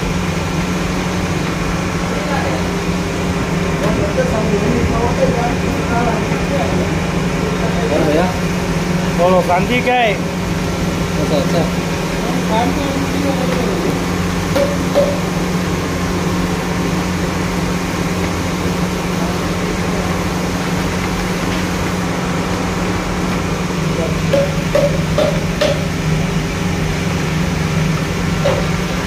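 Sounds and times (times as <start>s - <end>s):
blower humming: 0.0s - 29.0s
frying oil bubbling: 0.0s - 29.0s.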